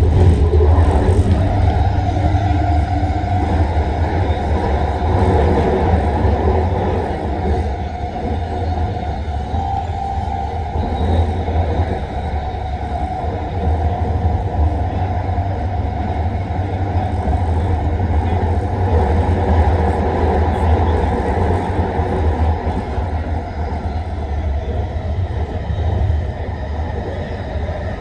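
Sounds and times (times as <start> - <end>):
metro train rumbling: 0.0 - 28.0.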